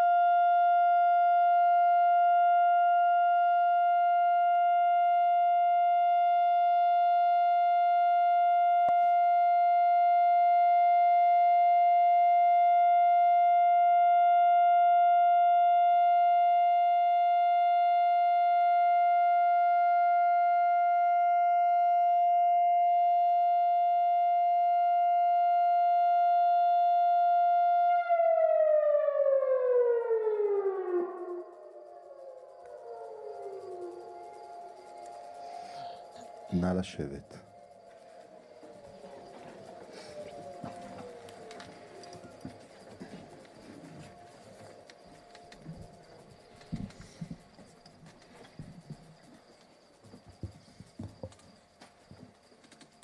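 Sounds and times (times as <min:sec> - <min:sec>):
steady siren tone: 0:00.0 - 0:53.0.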